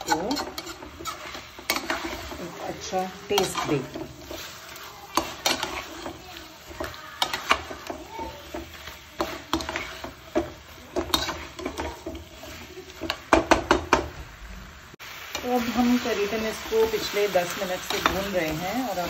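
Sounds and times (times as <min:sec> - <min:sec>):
spoon scraping metal pan: 0:00.0 - 0:14.0, 0:15.4 - 0:19.0
low frying sizzle: 0:00.0 - 0:19.0.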